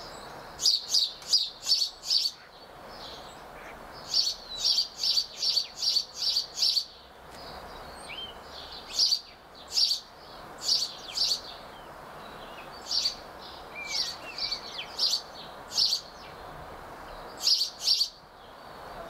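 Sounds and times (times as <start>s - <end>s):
songbirds short sharp calls: 0.0s - 19.0s
steady low hiss: 0.0s - 19.0s.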